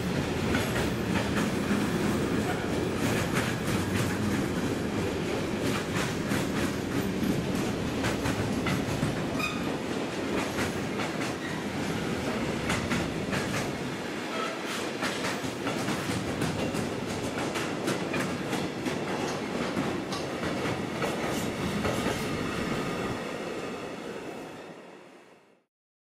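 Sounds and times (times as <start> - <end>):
train wheels rumbling on rails: 0.0 - 24.4.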